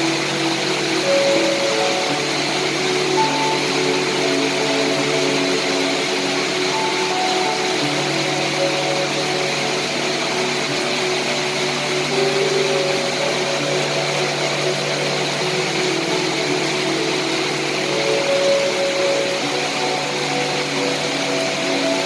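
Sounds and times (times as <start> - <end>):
soft music of held low notes: 0.0 - 22.0
steady rain hiss: 0.0 - 22.0.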